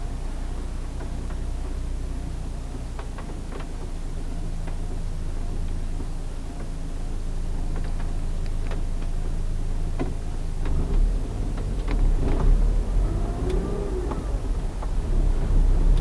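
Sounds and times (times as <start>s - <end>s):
car engine and road hum: 0.0s - 16.0s.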